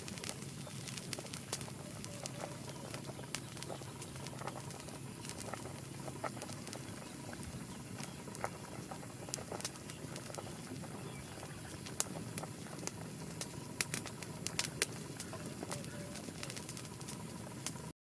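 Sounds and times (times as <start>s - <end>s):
fire popping: 0.0s - 17.9s
water boiling in metal pan: 0.0s - 17.9s.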